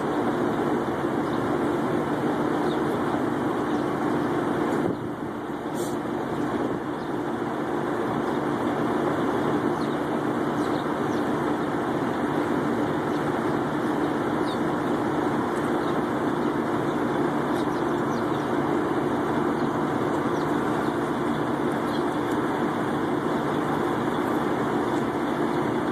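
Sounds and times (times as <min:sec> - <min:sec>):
truck engines idling: 0:00.0 - 0:25.9.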